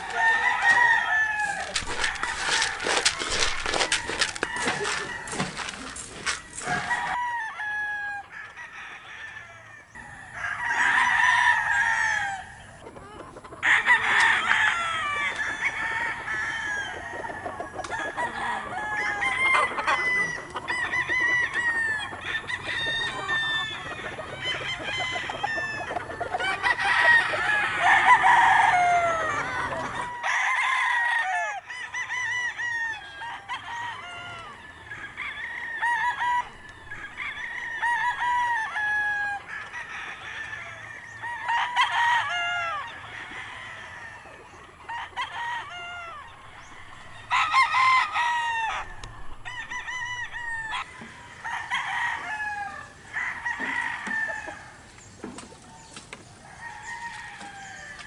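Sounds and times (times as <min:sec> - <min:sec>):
roosters clucking: 0:00.0 - 0:58.0
roosters crowing: 0:00.0 - 0:58.0.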